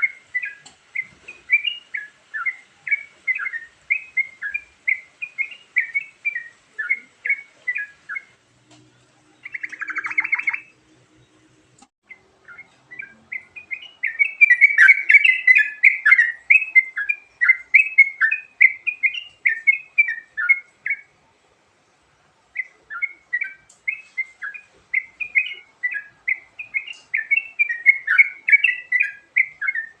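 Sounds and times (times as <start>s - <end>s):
bird chirping song: 0.0s - 30.0s.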